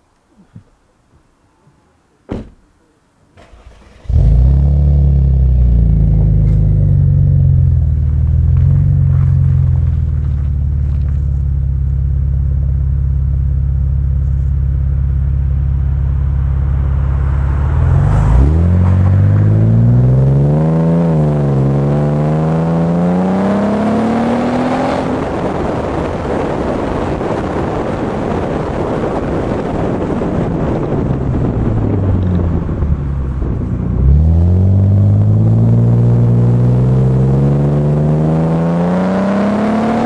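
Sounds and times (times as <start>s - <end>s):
wind and road noise: 0.0s - 40.0s
car exhaust revving: 3.4s - 40.0s.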